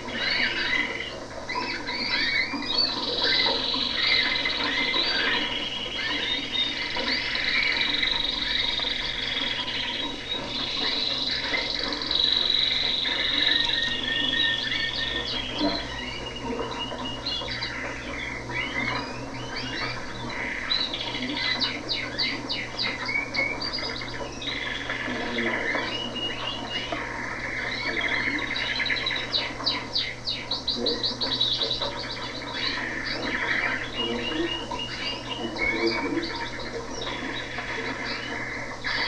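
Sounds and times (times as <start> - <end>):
canaries singing and chirping: 0.0 - 39.0.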